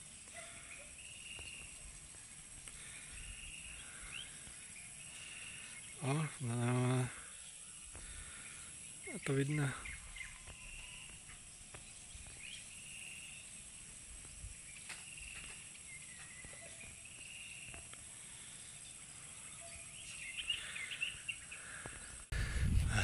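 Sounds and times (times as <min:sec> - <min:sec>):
faint rural ambience: 0:00.0 - 0:23.0.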